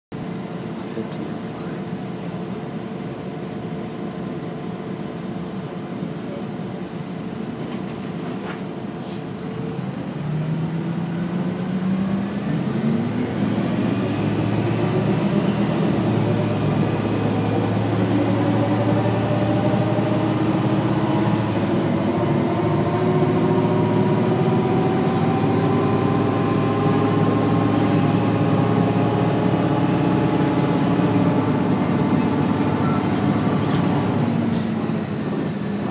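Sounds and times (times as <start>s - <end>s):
bus pulling away: 0.2s - 35.9s.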